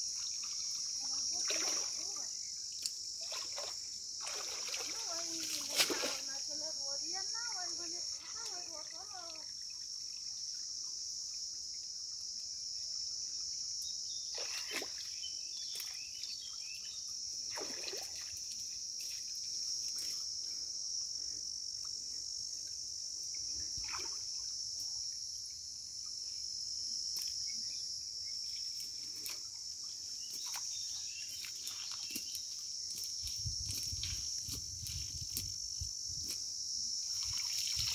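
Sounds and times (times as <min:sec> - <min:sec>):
chorus of insects: 0:00.0 - 0:37.9.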